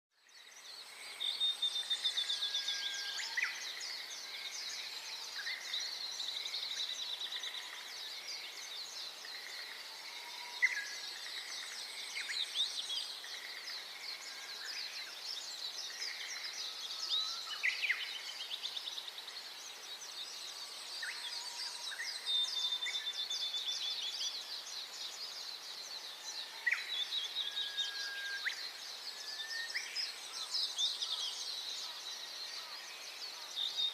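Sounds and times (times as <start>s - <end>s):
birds chirping in chorus: 0.3s - 33.9s.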